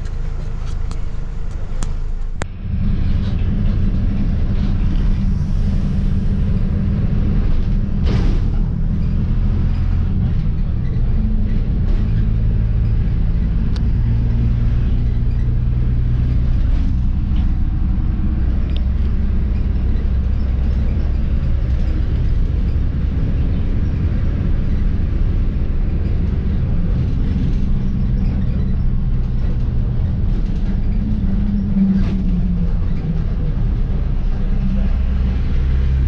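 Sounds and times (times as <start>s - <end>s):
bus engine rumble: 0.0s - 36.0s
road noise: 0.0s - 36.0s.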